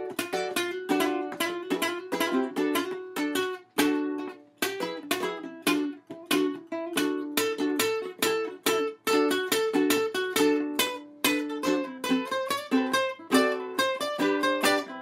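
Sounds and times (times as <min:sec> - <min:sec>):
ukulele playing: 0:00.0 - 0:15.0.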